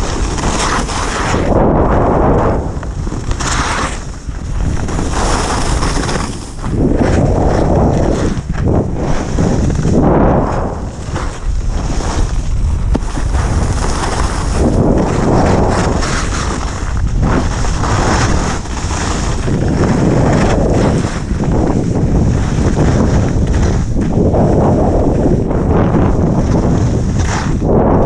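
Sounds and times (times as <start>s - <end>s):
skis scraping on snow: 0.0s - 28.0s
wind buffeting microphone: 0.0s - 28.0s.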